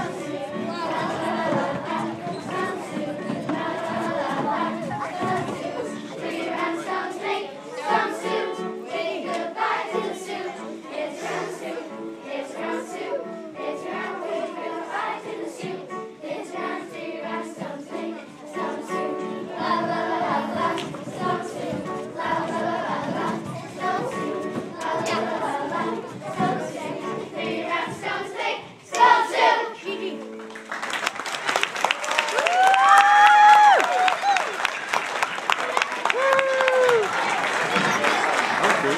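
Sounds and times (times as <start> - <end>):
children's choir singing: 0.0 - 31.4, 36.9 - 38.9.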